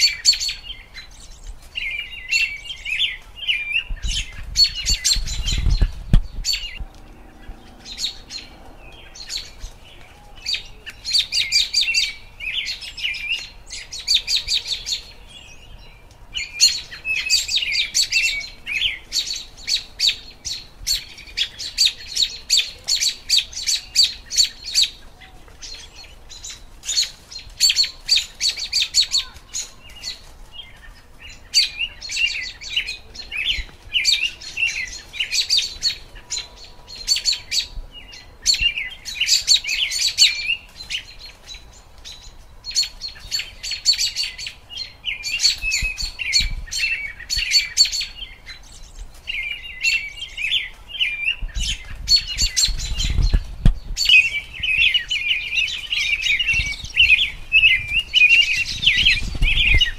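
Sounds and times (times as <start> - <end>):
robin chirping: 0.0 - 59.9.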